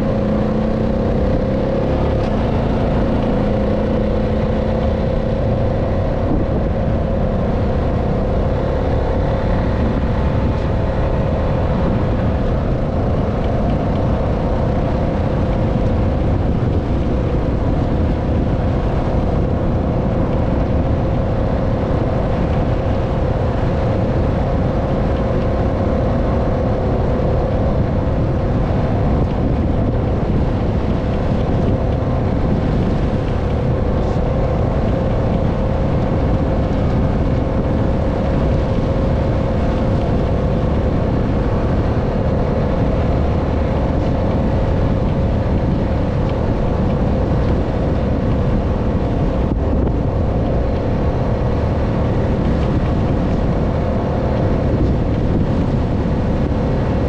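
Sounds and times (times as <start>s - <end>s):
atv engine drone: 0.0s - 57.0s.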